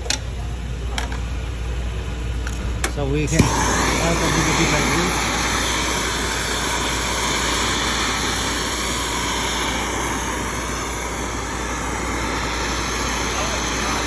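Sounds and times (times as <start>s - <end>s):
blowtorch flame roaring: 1.2s - 14.0s.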